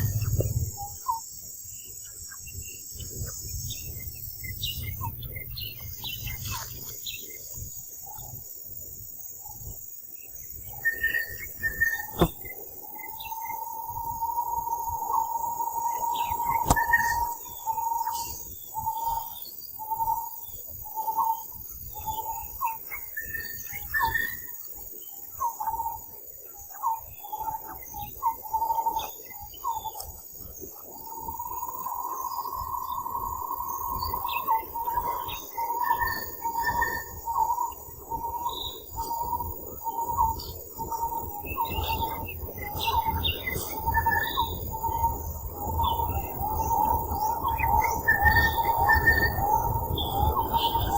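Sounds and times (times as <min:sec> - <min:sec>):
bird chirps: 0:00.0 - 0:50.9
high hiss of insects: 0:00.0 - 0:50.9.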